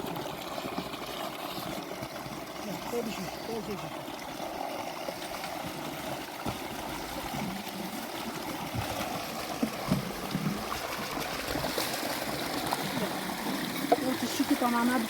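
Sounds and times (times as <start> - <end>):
water running and trickling: 0.0 - 15.0.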